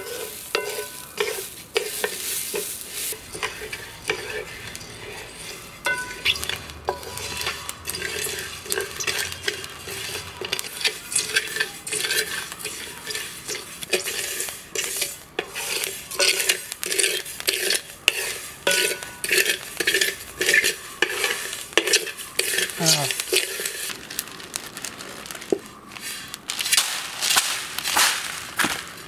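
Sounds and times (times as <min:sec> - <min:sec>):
metal spatula scraping rice in pan: 0:00.0 - 0:24.1, 0:25.4 - 0:28.1
rice grains rattling and hissing: 0:00.0 - 0:29.0.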